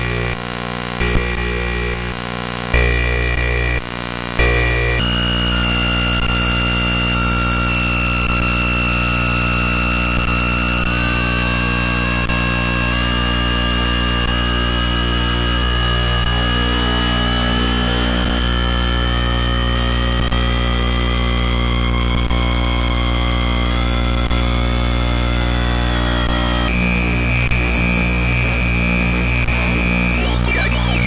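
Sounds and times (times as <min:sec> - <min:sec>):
electronic noise drone: 0:00.0 - 0:22.6, 0:26.1 - 0:31.0.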